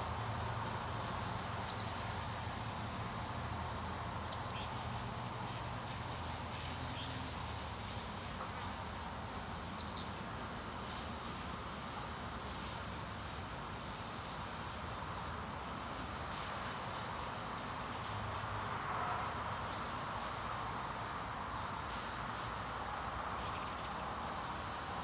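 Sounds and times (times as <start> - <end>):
insects humming: 0.0 - 25.0.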